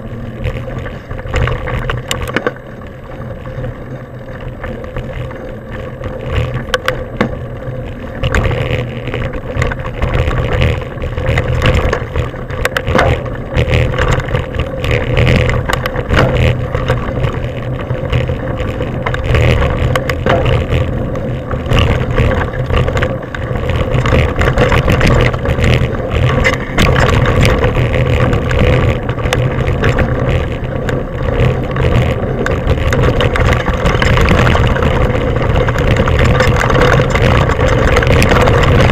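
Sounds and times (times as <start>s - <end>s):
bike rattles and knocks: 0.0s - 38.9s
steady hum: 0.0s - 38.9s
tyres rolling over dirt: 0.0s - 38.9s
wind buffeting microphone: 0.0s - 38.9s.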